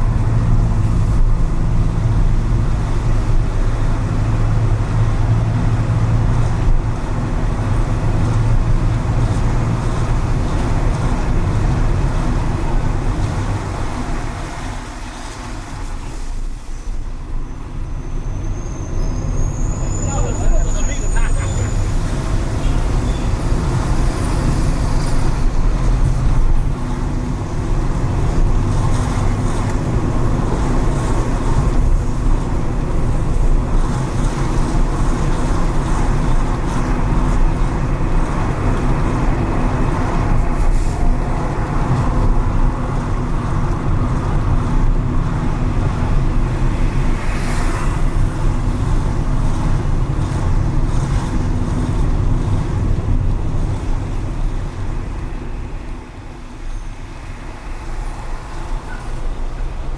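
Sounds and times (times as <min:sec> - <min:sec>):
car engine and tyre rumble: 0:00.0 - 0:59.9
tyres hissing on wet pavement: 0:08.3 - 0:17.4, 0:18.2 - 0:59.9.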